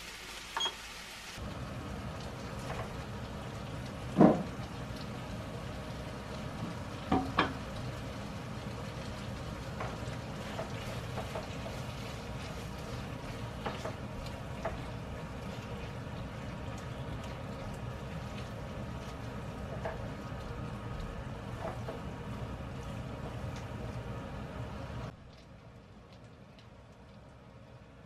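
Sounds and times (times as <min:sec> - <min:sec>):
pasta sizzling in a frying pan: 0:00.0 - 0:27.7.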